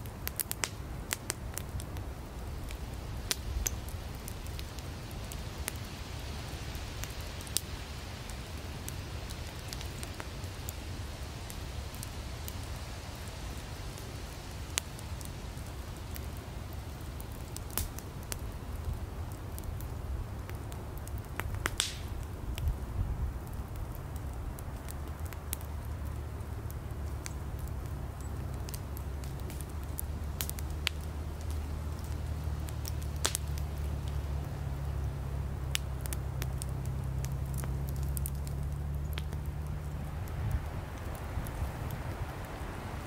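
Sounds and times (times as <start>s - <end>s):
campfire crackling: 0.0s - 43.0s
firewood popping: 0.0s - 43.0s.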